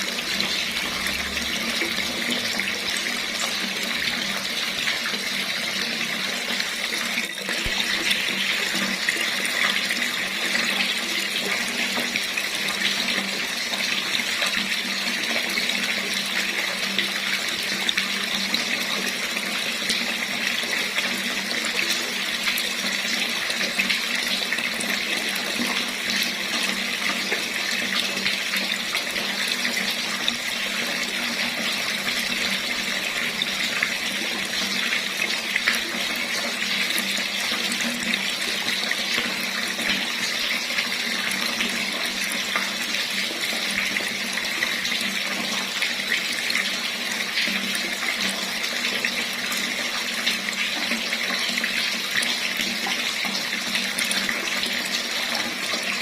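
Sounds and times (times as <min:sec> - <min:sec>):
tap water running into basin: 0:00.0 - 0:56.0.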